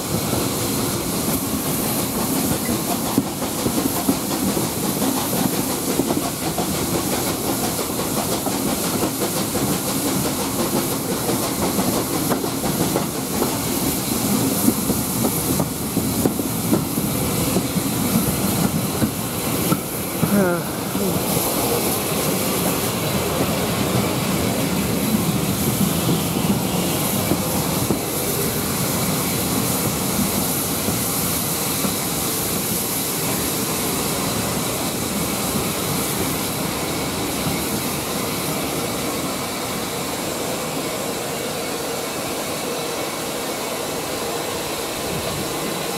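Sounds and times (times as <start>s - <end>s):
train wheel noise: 0.0s - 45.9s.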